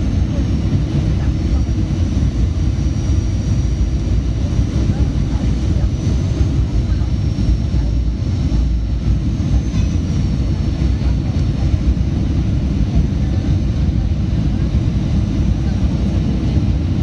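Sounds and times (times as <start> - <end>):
aircraft low rumble: 0.0 - 17.0.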